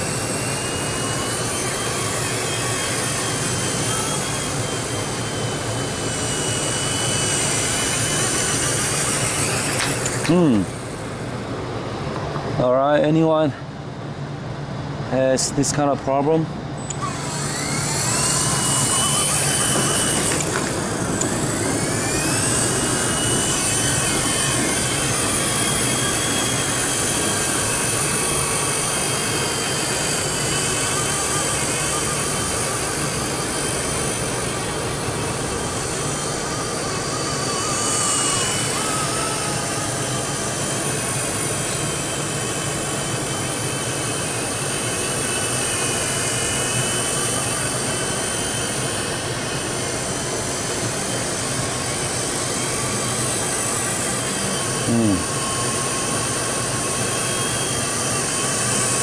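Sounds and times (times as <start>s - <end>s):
rc helicopter rotor whine: 0.0s - 59.0s.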